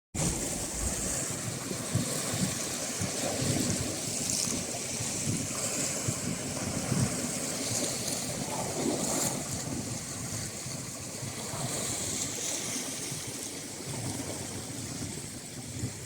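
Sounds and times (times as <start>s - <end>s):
sea waves washing: 0.2s - 16.0s
wind buffeting microphone: 0.2s - 16.0s.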